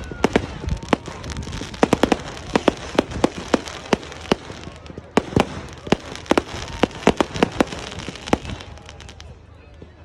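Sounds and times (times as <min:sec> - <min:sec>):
fireworks bangs: 0:00.0 - 0:09.4.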